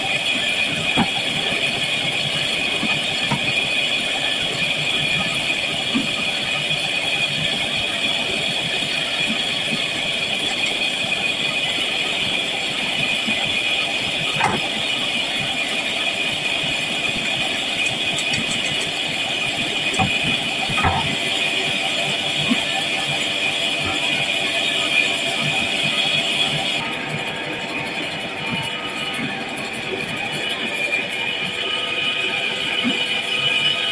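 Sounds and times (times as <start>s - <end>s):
mechanical hum and hiss: 0.0s - 33.9s.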